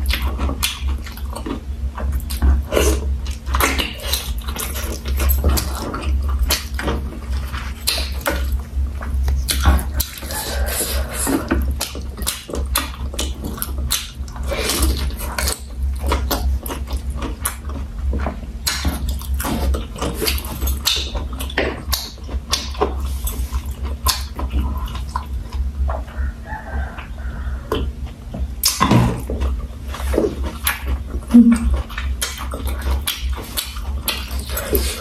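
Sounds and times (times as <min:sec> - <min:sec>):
chewing and mouth smacking: 0:00.0 - 0:35.0
steady low hum: 0:00.0 - 0:35.0.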